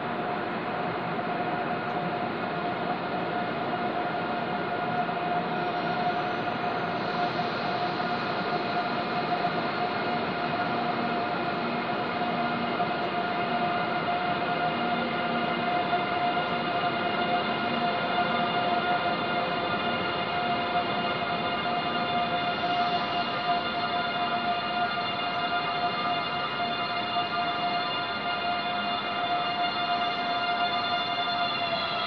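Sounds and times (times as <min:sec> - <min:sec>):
train rumbling hum: 0:00.0 - 0:32.0.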